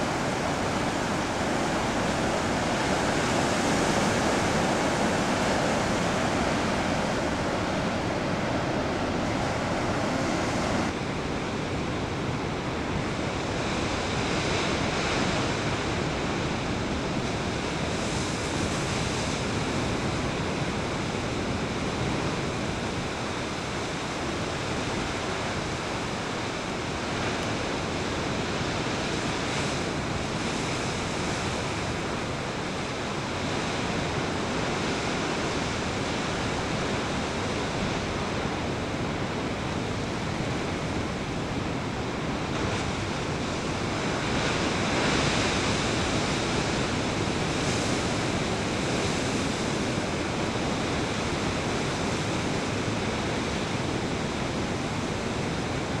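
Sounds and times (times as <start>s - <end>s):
surf breaking around rocks: 0.0s - 56.0s.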